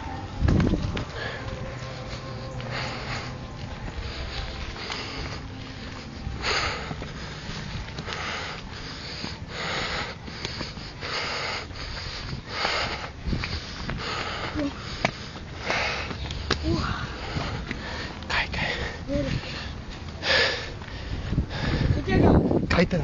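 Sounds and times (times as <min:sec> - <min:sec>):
person breathing hard: 0:00.9 - 0:22.2.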